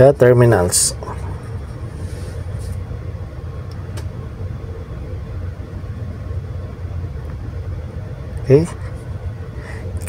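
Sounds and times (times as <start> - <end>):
faint hum: 0.0 - 10.0
low machinery rumble: 0.0 - 10.0.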